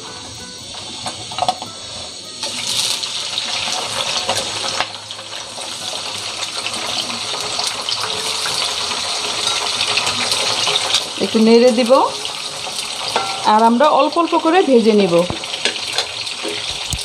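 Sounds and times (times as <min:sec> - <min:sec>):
fries sizzling in hot oil: 0:00.0 - 0:17.0.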